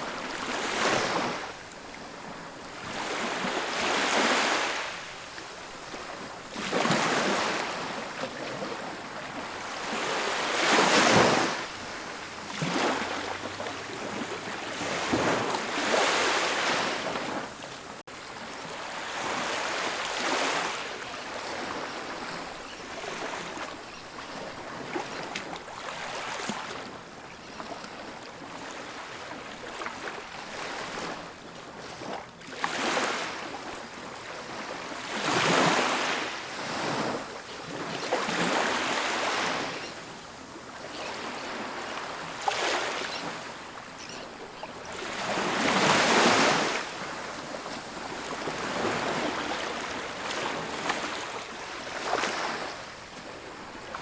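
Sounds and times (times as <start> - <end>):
ocean surf breaking on beach: 0.0 - 23.8, 32.6 - 54.0.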